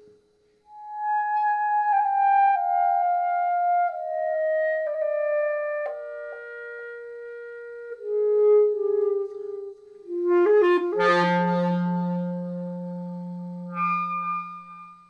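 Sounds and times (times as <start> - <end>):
clarinet held notes with delay: 0.0 - 15.0.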